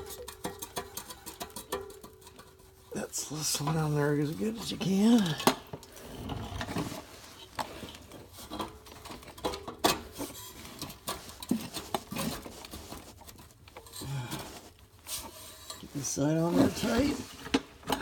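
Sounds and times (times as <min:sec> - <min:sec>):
metal scraping and tapping: 0:00.0 - 0:18.0.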